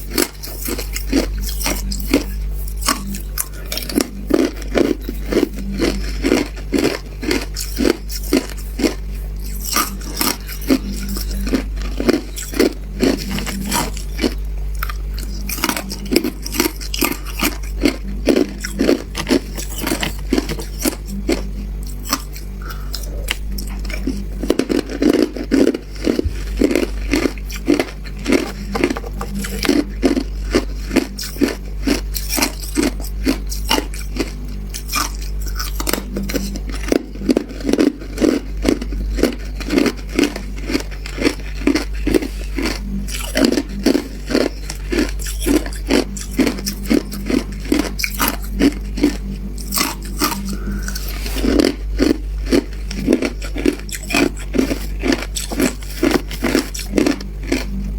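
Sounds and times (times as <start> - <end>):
low steady hum: 0.0 - 57.9
person crunching ice: 0.0 - 57.9.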